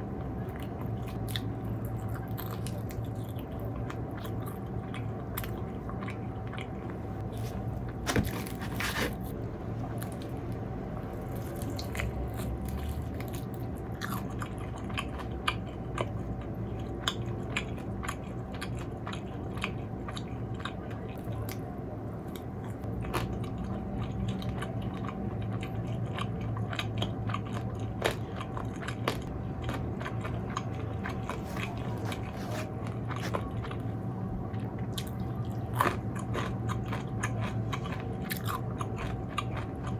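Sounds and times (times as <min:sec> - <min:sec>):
chewing crispy food: 0:00.0 - 0:39.9
low background hum: 0:00.0 - 0:39.9.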